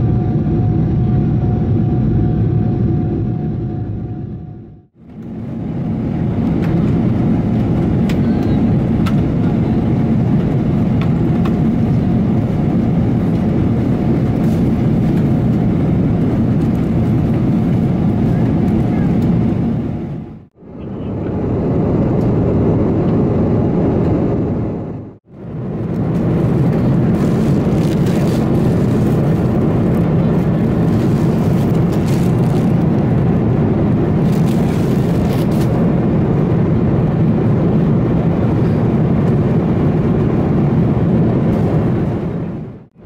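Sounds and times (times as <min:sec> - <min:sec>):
airplane cabin engine rush: 0:00.0 - 0:43.0.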